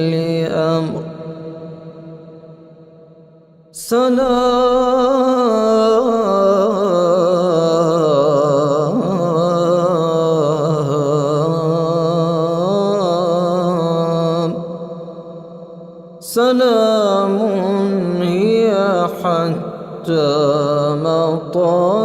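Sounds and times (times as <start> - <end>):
man chanting a long vowel: 0.0 - 2.3, 3.8 - 22.0.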